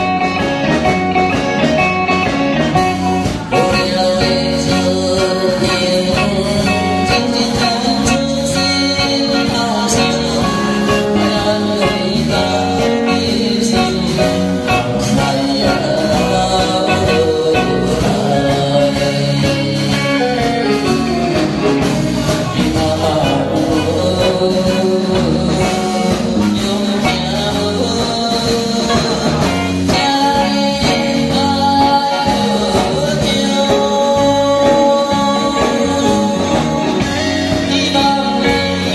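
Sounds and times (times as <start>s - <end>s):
band with drums and keyboard: 0.0s - 38.9s
man singing into a microphone: 3.3s - 38.9s.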